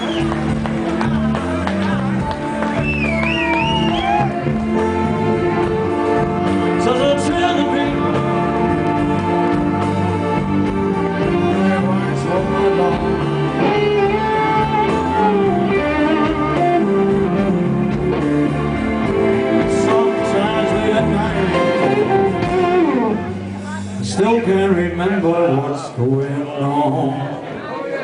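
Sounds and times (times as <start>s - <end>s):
guitar with bent notes: 0.0s - 23.9s
blues band playing: 0.0s - 27.3s.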